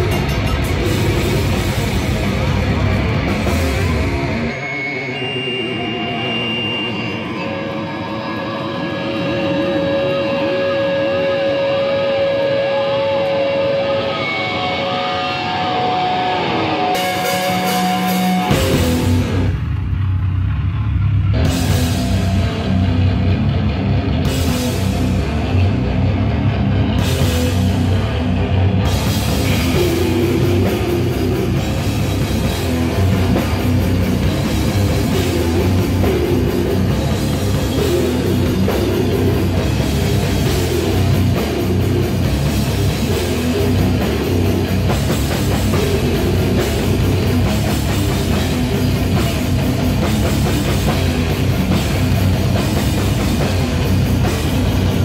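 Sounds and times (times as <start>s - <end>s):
grindcore band playing: 0.0s - 55.0s.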